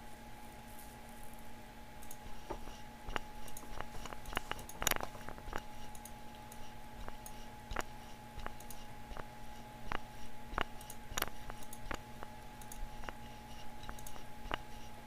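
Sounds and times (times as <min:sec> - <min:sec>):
steady hum: 0:00.0 - 0:15.0
computer mouse clicking: 0:02.0 - 0:14.9.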